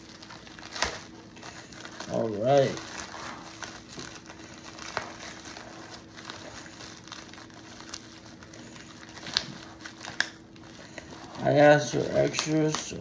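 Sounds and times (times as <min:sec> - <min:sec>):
plastic mailer crinkling and tearing: 0:00.0 - 0:13.0.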